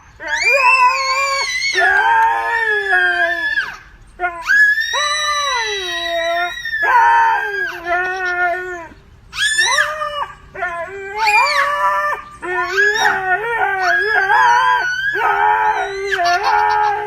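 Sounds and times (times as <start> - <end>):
dog howling: 0.0 - 17.0.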